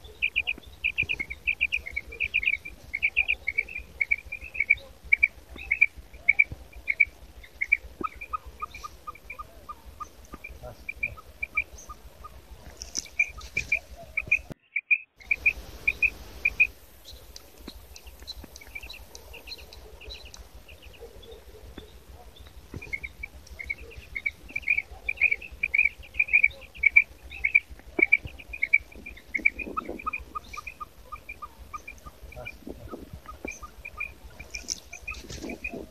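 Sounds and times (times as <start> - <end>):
lower quail notes: 0.0 - 35.9
quail chirping: 0.0 - 35.9.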